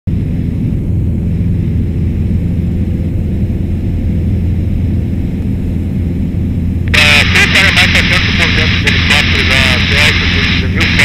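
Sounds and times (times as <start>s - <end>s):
light aircraft engine droning: 0.1s - 11.0s.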